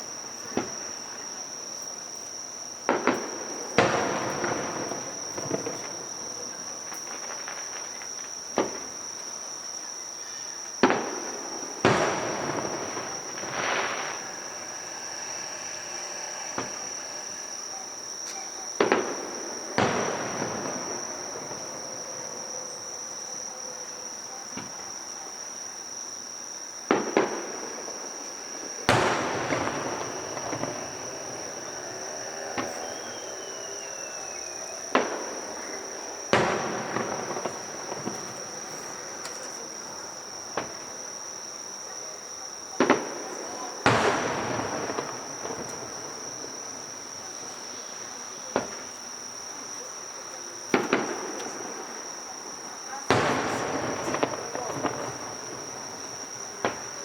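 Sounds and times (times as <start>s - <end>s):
fireworks booming: 0.0s - 9.7s, 10.3s - 23.0s, 26.8s - 41.2s, 42.7s - 49.7s, 50.3s - 57.0s
fireworks crackle: 0.0s - 9.7s, 10.6s - 22.5s, 26.8s - 41.1s, 42.8s - 49.2s, 50.7s - 57.0s
crickets trilling: 0.0s - 57.0s.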